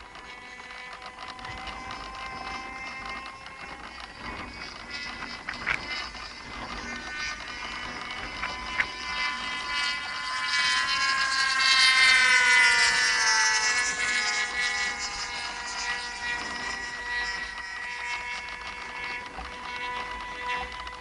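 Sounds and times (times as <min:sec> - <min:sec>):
model airplane engine buzzing: 0:00.0 - 0:21.0.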